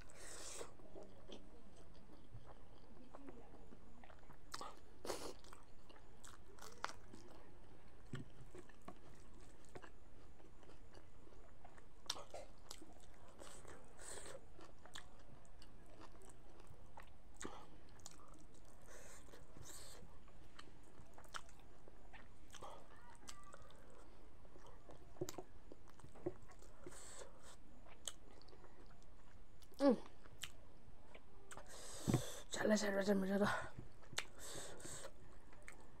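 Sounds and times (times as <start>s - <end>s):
chewing and lip smacking: 0.4s - 31.8s.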